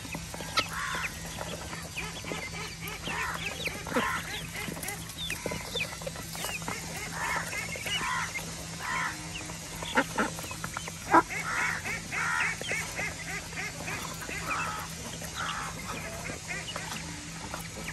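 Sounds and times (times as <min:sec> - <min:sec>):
ducks quacking: 0:00.0 - 0:17.9.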